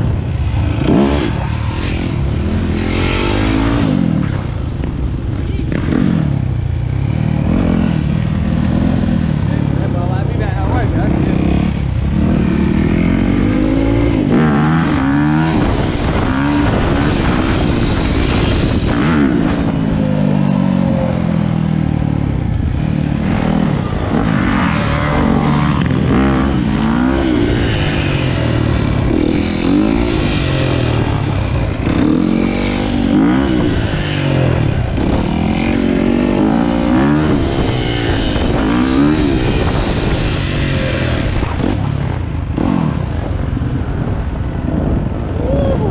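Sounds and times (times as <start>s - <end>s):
dirt bike engine revving: 0.0s - 43.6s.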